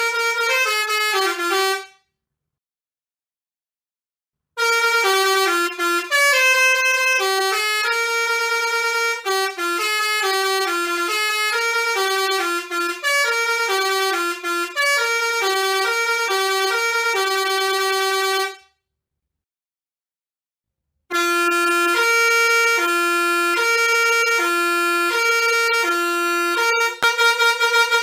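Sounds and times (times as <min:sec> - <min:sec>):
musical air horn tune: 0:00.0 - 0:02.1, 0:04.6 - 0:18.7, 0:21.1 - 0:28.0.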